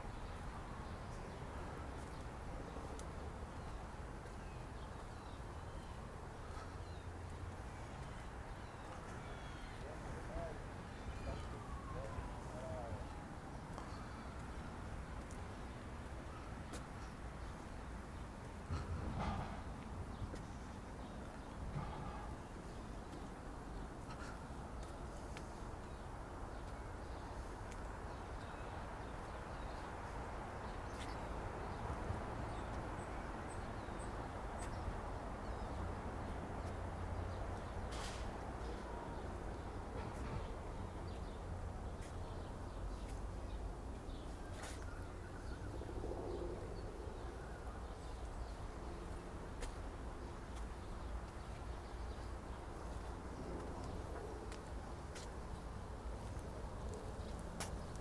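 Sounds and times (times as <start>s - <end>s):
city traffic rumble: 0.0s - 58.0s.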